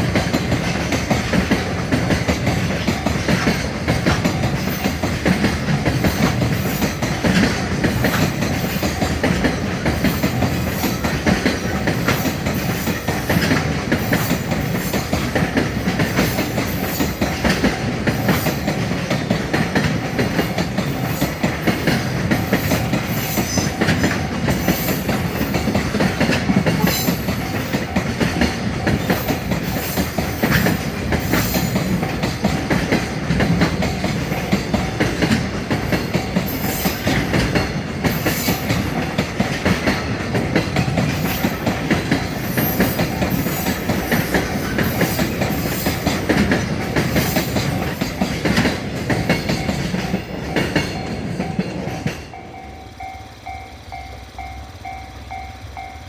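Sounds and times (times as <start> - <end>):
wagon wheels clicking on rails: 0.0 - 55.9
freight train rumbling: 0.0 - 56.0.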